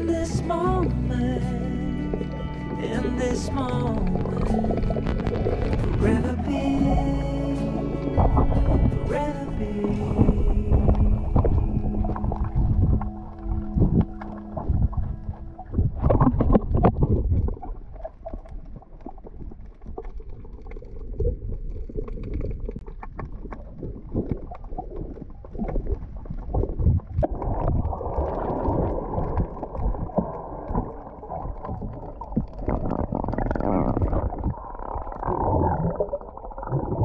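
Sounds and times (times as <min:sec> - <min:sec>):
bubbling: 0:00.0 - 0:37.0
muffled underwater rumble: 0:00.0 - 0:37.0
rushing water: 0:00.0 - 0:37.0
knocks and clicks underwater: 0:03.7 - 0:06.2, 0:07.8 - 0:09.2, 0:09.8 - 0:37.0.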